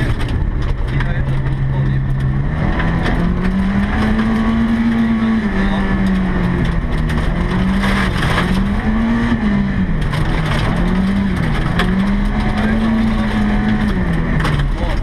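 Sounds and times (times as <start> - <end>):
gravel clattering: 0.0 - 15.0
rally car engine revving: 0.0 - 15.0.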